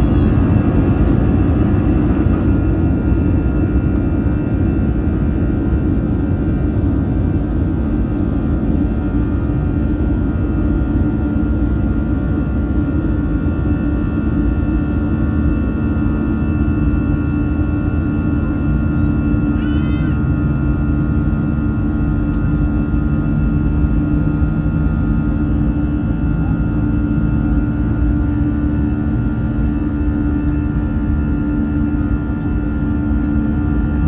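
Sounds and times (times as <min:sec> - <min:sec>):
jet engines humming in cabin: 0:00.0 - 0:34.0.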